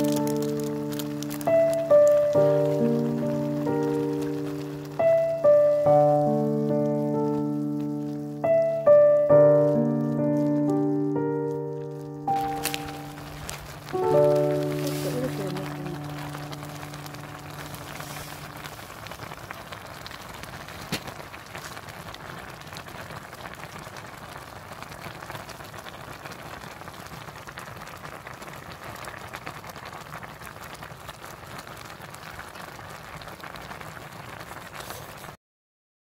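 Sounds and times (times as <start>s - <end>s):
water boiling with bursting bubbles: 0.0s - 35.4s.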